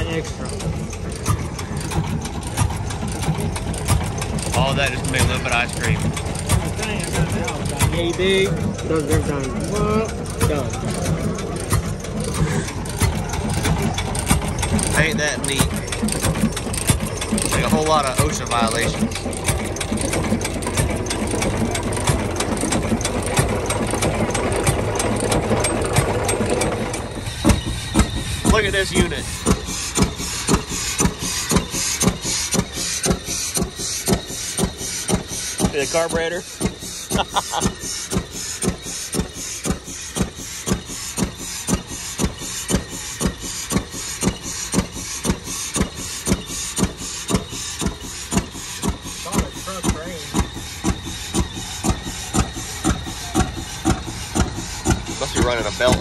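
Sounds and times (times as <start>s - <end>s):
stationary engine mechanical clatter: 0.0s - 56.0s.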